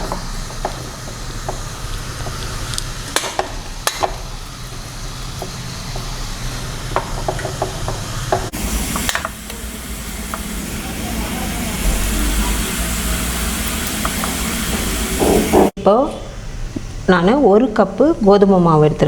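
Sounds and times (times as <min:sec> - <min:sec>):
boiling water hiss: 0:00.0 - 0:18.2.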